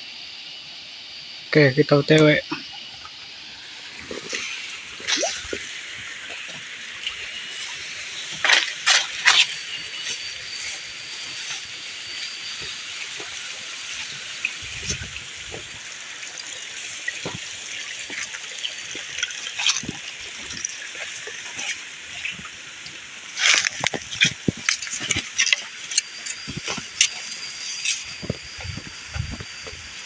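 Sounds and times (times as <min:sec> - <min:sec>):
falling water rushing: 0:03.6 - 0:30.0.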